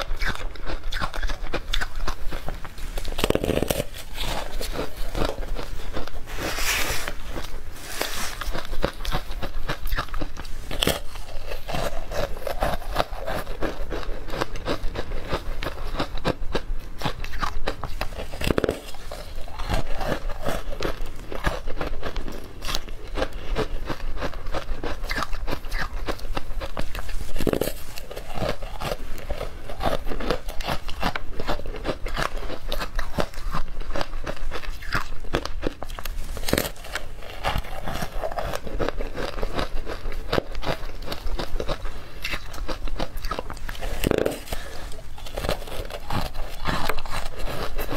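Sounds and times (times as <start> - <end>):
crunching and chewing ice: 0.0 - 47.9.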